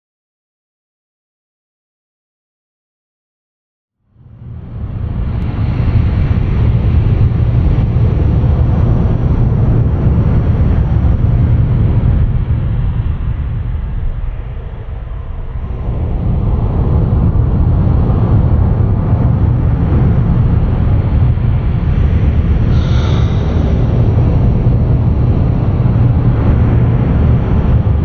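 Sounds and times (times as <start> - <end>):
wind buffeting microphone: 4.1 - 28.0.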